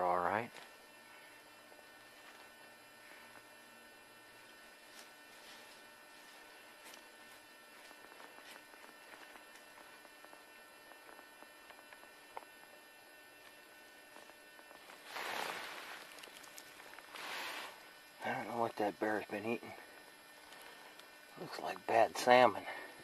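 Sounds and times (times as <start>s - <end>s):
faint hum and hiss: 0.0s - 23.0s.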